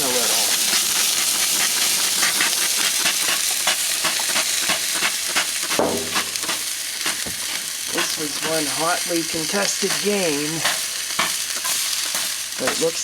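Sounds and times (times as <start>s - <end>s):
burning ball sizzling and popping: 0.0s - 13.0s
steady hiss: 0.0s - 13.0s.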